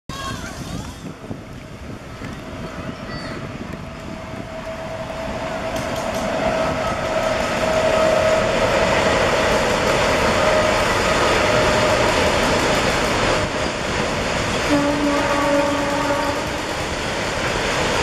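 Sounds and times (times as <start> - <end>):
freight train rumbling: 0.1 - 18.0.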